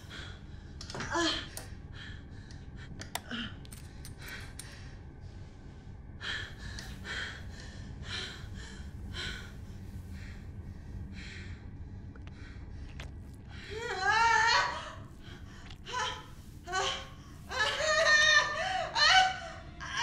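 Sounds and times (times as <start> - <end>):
woman breathing heavily and gasping: 0.0 - 19.8
steady low hum: 0.0 - 20.0.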